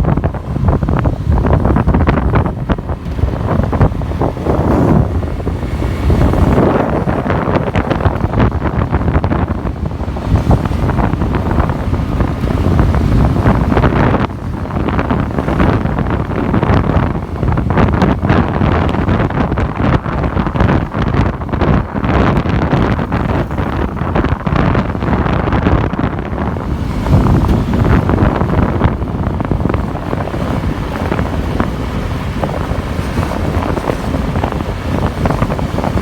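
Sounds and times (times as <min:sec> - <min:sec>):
road and vehicle noise: 0:00.0 - 0:36.0
wind buffeting microphone: 0:00.0 - 0:36.0.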